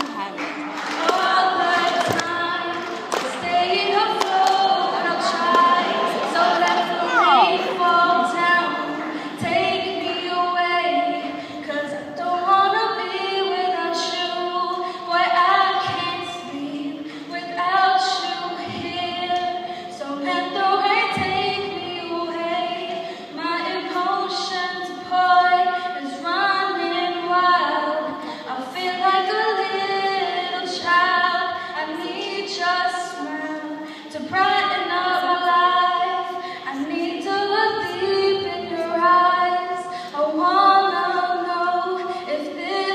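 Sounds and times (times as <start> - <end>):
woman singing a cappella: 0.9 - 42.9.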